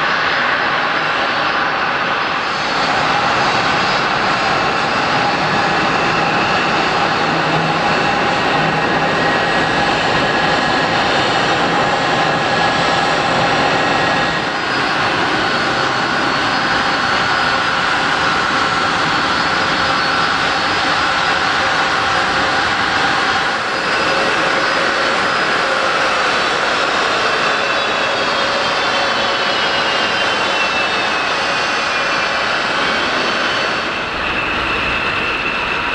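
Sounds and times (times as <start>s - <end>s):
jet engines roaring and whining: 0.0s - 35.9s.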